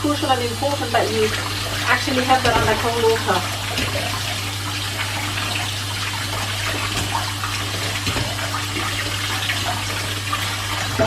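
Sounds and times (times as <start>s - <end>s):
tap water pouring: 0.0s - 11.0s.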